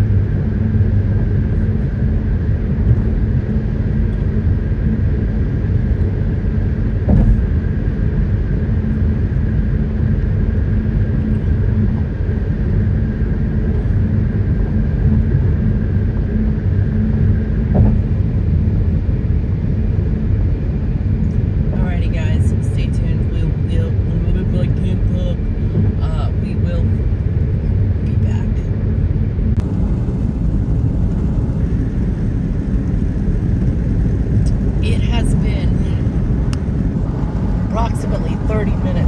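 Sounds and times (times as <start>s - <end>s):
road and engine rumble: 0.0s - 39.0s.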